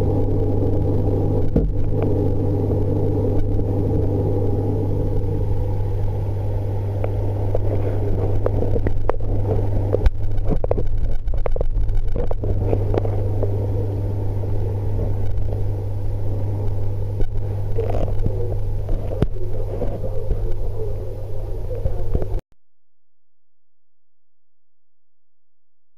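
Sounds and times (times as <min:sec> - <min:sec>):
aquarium pump humming: 0:00.0 - 0:22.4.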